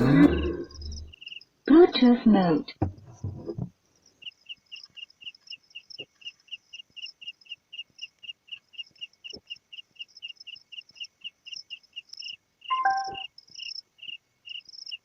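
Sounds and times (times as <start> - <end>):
cricket chirping: 0.0 - 1.6, 3.8 - 15.0.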